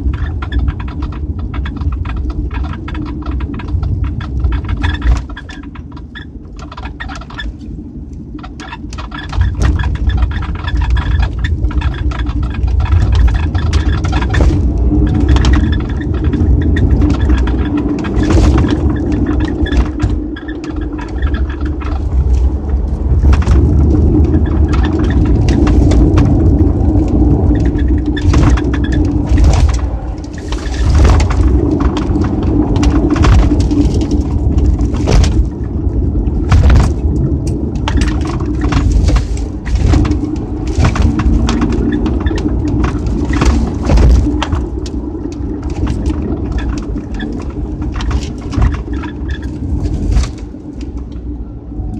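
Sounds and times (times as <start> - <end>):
squeaks and creaks from rear hatch: 0.0 - 7.7, 8.4 - 51.0
engine and road rumble: 0.0 - 51.9.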